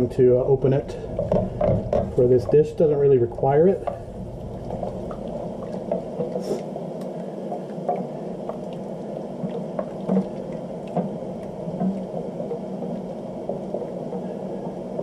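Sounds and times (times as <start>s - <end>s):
sauce simmering: 0.0s - 15.0s.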